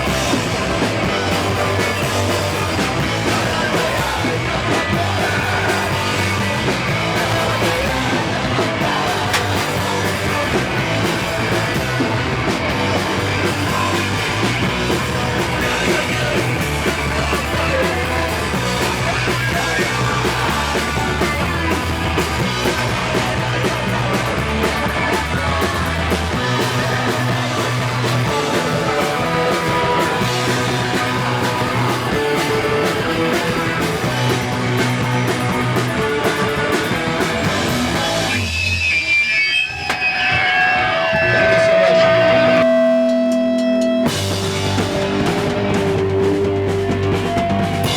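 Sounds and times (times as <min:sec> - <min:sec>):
bass line: 0:00.0 - 0:47.9
punk rock band playing live: 0:00.0 - 0:47.9.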